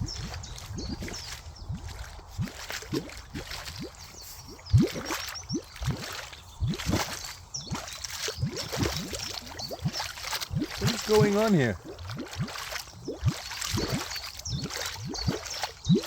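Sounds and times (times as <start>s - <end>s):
bubbling bloops in water: 0.0s - 16.0s.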